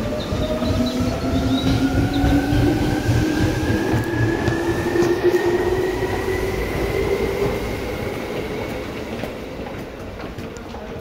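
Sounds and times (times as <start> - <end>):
train whine rising in pitch: 0.0 - 10.2
electric train running: 0.0 - 11.0.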